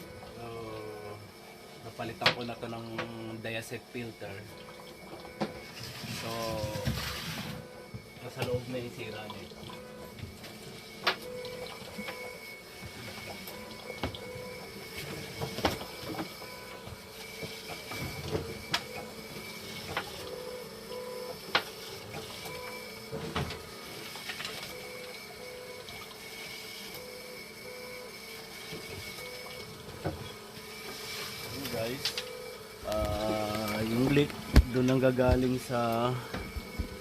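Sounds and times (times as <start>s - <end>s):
machine humming: 0.0s - 37.0s.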